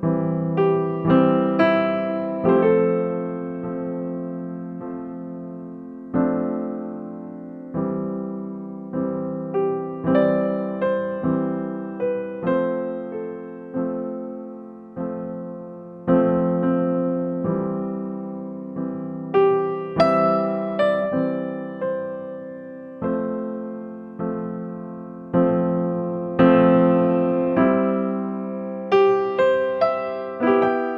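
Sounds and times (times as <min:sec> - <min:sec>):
gentle solo piano: 0:00.0 - 0:30.9.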